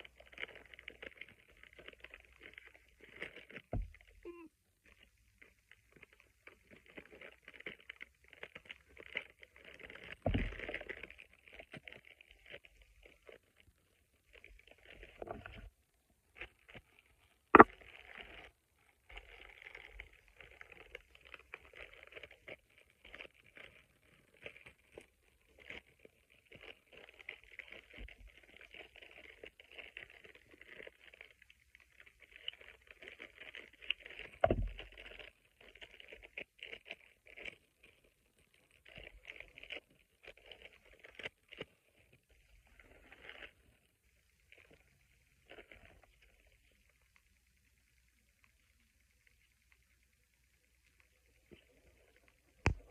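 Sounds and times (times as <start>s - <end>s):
plastic packaging crinkling: 0.0s - 15.7s, 16.4s - 47.2s, 50.8s - 52.9s.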